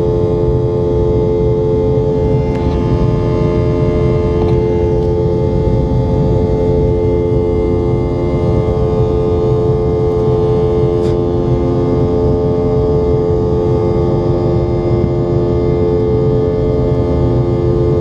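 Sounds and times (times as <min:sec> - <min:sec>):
aircraft cabin drone: 0:00.0 - 0:18.0.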